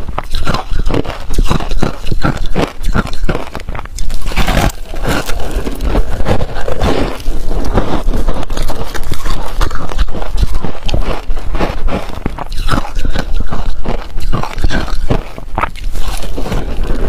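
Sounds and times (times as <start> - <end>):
crunching and chewing ice: 0.0 - 17.0.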